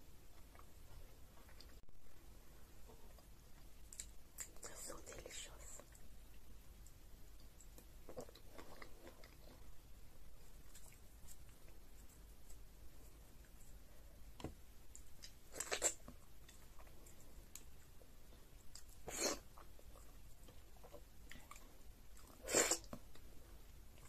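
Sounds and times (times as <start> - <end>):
soft chewing: 0.0 - 24.0.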